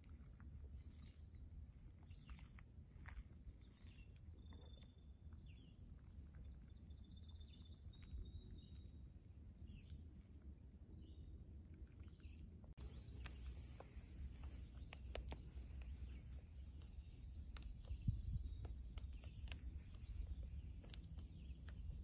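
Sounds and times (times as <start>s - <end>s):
low steady rumble: 0.0s - 22.0s
songbirds chirping: 0.0s - 22.0s.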